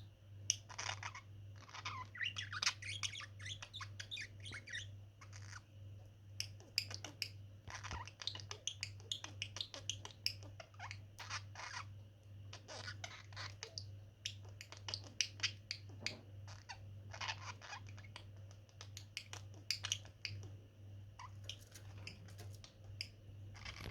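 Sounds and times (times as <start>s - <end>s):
budgerigars chattering and chirping: 0.5s - 5.7s, 6.4s - 11.9s, 12.5s - 20.6s, 21.2s - 23.9s.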